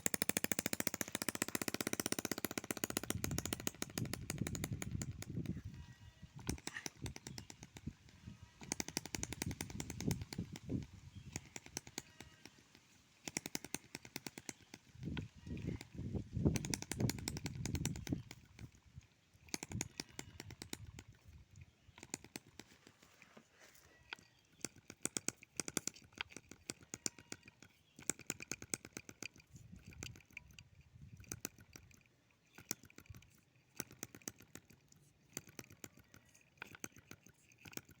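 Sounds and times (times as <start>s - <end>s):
two-stroke engine popping: 0.0s - 23.0s, 24.1s - 38.0s.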